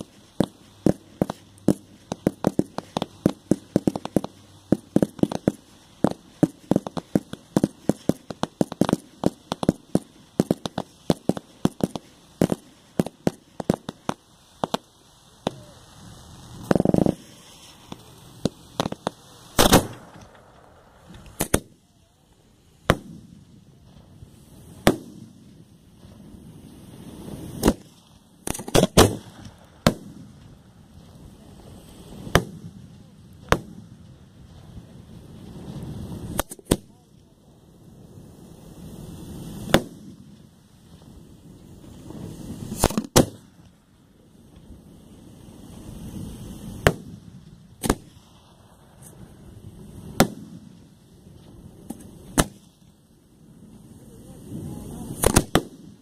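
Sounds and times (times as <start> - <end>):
fireworks bangs: 0.0 - 56.0
fireworks shots: 0.0 - 56.0.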